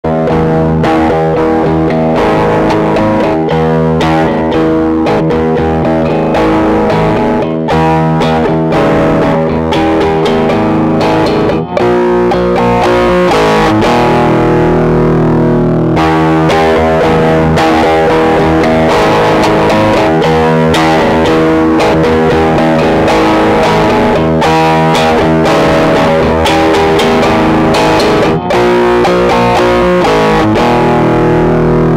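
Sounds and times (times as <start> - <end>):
distorted electric guitar riff: 0.0 - 31.9.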